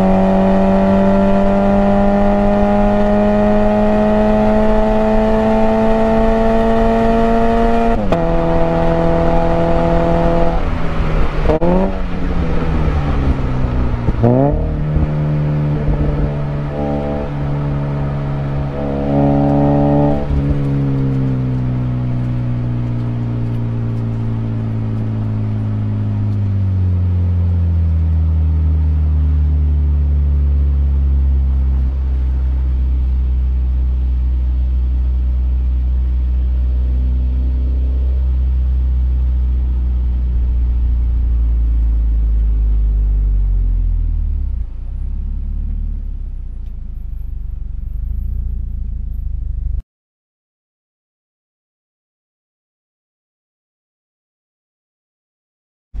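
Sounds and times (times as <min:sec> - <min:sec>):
car engine from inside cabin: 0:00.0 - 0:49.8.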